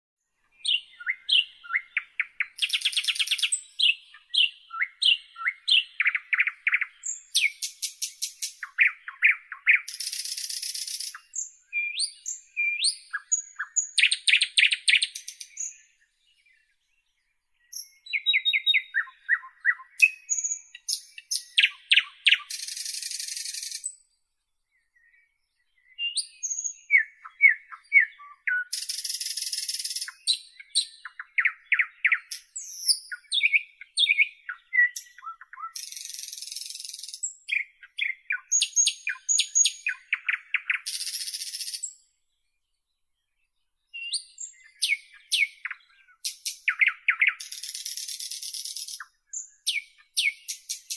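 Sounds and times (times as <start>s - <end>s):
nightingale singing: 0.3s - 50.9s.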